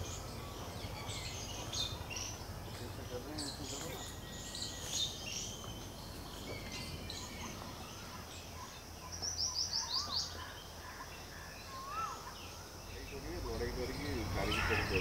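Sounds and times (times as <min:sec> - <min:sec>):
birds chirping and calling: 0:00.0 - 0:15.0
faint outdoor hum: 0:00.0 - 0:15.0.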